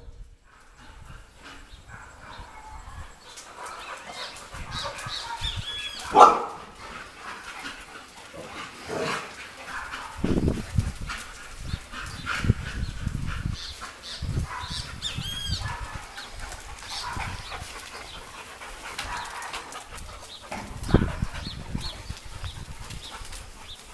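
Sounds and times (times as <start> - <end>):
dogs barking: 0.6 - 23.9.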